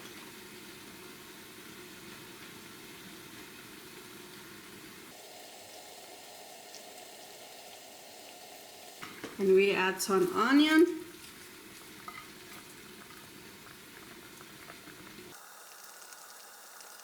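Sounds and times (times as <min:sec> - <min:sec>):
sauce sizzling in a frying pan: 0:00.0 - 0:17.0.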